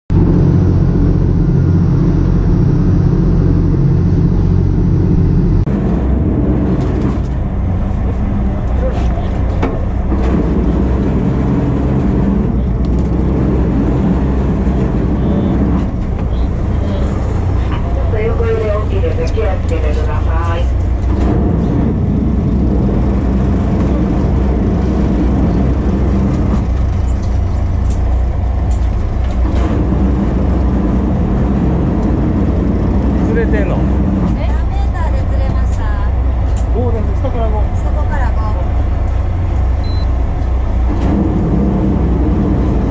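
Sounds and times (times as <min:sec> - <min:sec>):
boat engine droning: 0:00.1 - 0:42.9.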